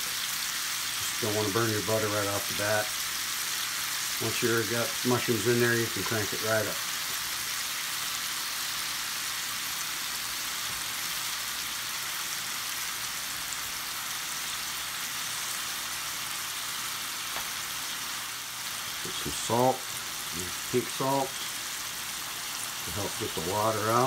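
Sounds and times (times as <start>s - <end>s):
mushrooms sizzling in a skillet: 0.0s - 24.0s.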